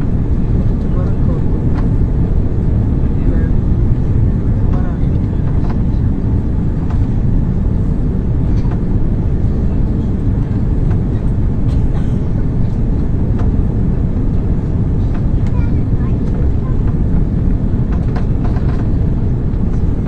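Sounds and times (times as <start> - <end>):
jet engines and rushing air: 0.0 - 20.0.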